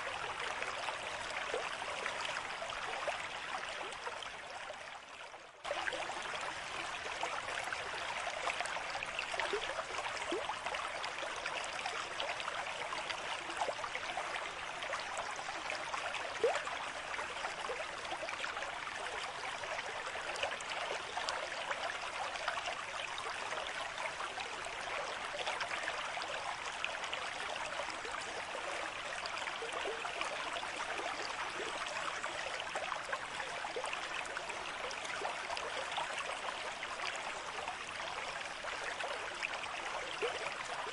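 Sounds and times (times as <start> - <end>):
stream babbling over stones: 0.0 - 5.0, 5.6 - 40.9.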